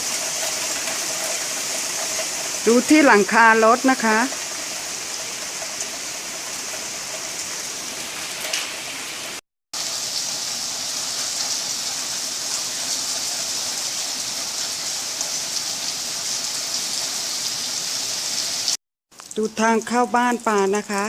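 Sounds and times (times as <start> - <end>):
hail and heavy rain pelting: 0.0 - 18.8.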